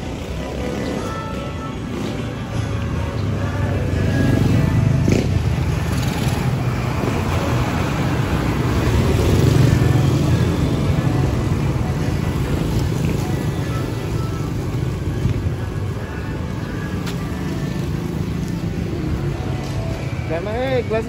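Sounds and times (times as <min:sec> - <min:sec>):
background music: 0:00.0 - 0:21.0
vehicles driving past: 0:00.0 - 0:21.0.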